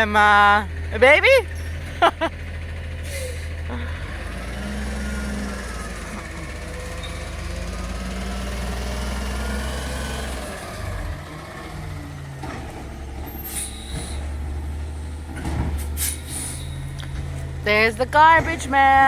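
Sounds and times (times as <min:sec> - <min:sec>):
garbage truck engine running: 0:00.0 - 0:19.0.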